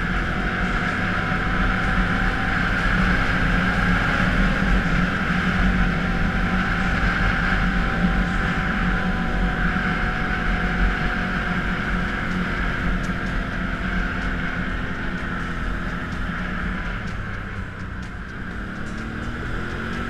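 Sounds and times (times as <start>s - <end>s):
atv engine running: 0.0s - 20.0s
wind: 0.0s - 20.0s.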